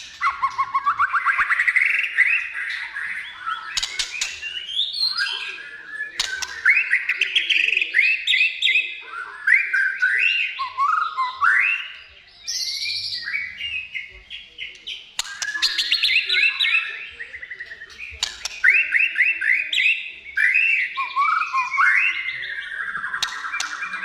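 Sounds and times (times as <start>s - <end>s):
bird singing trills and whistles: 0.0s - 24.0s.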